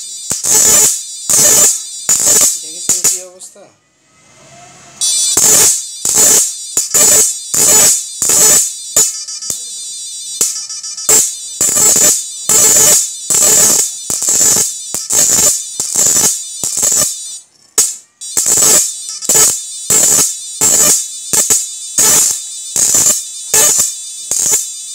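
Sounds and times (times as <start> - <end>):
electric arc crackling bursts: 0.0 - 3.5, 5.0 - 24.9
faint high inverter whine: 0.0 - 24.9.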